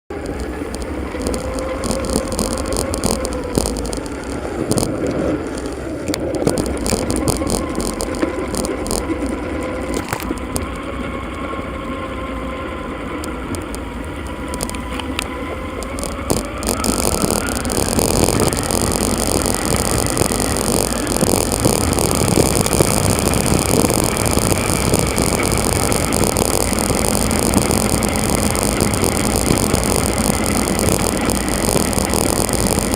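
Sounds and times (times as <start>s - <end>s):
wind and road noise: 0.1s - 32.9s
faint wavering hum: 0.2s - 32.9s.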